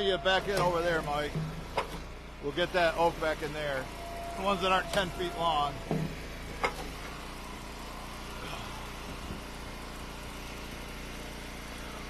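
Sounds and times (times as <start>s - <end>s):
wood splitter engine idling: 0.0s - 12.0s.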